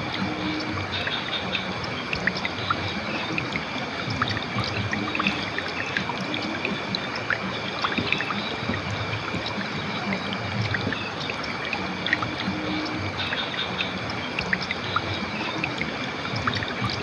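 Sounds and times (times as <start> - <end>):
river water flowing over stones: 0.0 - 17.0.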